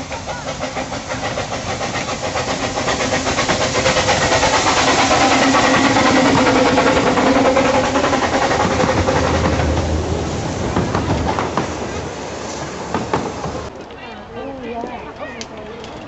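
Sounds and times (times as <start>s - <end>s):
miniature train locomotive passing: 0.0s - 16.0s.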